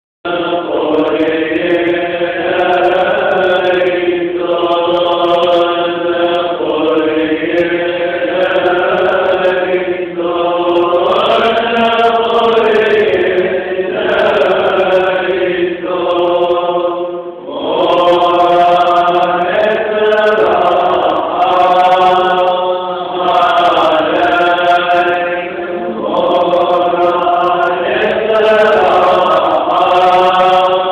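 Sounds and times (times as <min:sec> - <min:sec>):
men chanting a prayer: 0:00.3 - 0:30.9.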